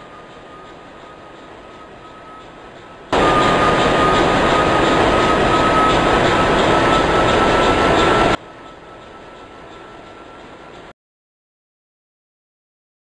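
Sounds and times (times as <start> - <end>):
loud machinery noise: 0.0 - 10.9.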